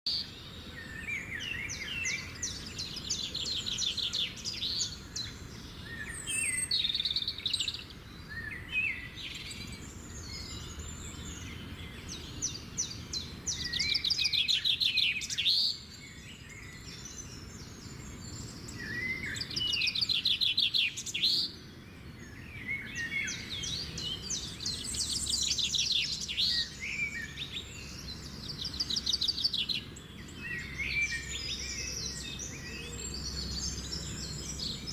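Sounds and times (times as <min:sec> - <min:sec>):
songbirds trilling: 0:00.1 - 0:34.9.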